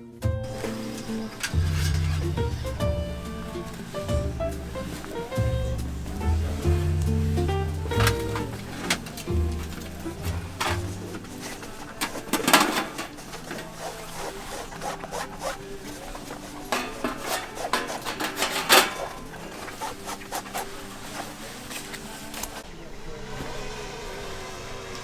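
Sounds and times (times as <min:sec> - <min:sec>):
objects being handled: 0:00.5 - 0:22.6.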